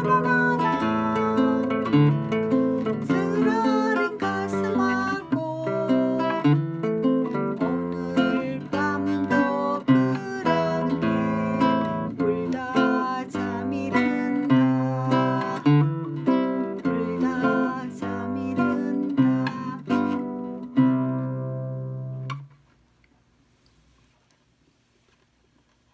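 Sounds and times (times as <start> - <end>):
classical guitar fingerstyle: 0.0 - 22.6.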